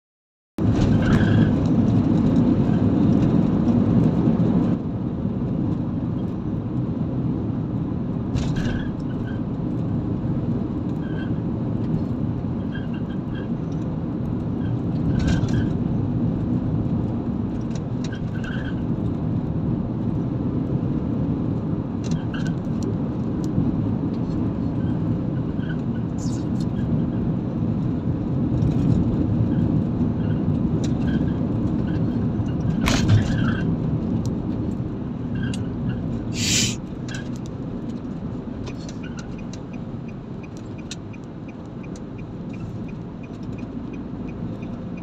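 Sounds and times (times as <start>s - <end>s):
car road noise from inside: 0.6s - 45.0s.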